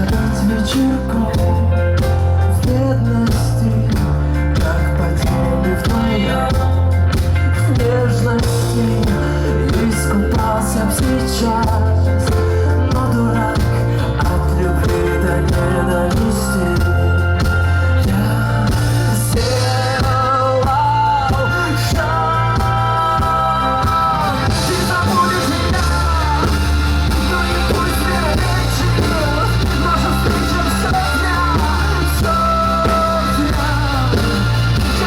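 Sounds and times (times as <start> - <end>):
live rock band playing: 0.0 - 35.0
person singing: 0.0 - 35.0.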